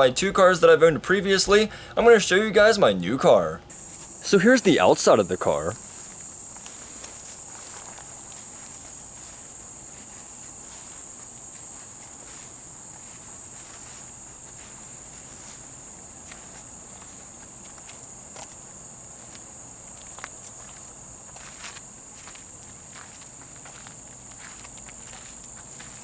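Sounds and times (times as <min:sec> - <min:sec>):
crickets chirping: 0:00.0 - 0:26.0
faint footsteps: 0:00.0 - 0:26.0.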